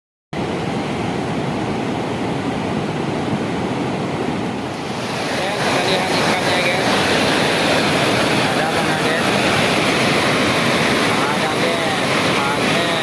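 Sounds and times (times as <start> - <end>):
waterfall rushing: 0.4 - 13.0.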